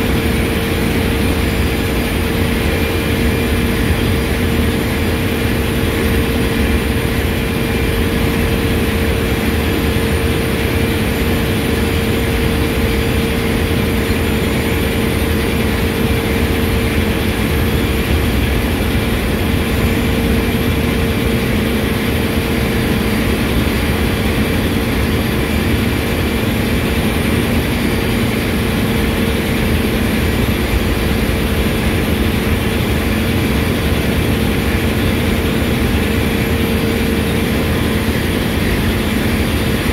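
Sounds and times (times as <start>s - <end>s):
engine-room machinery din: 0.0s - 39.9s.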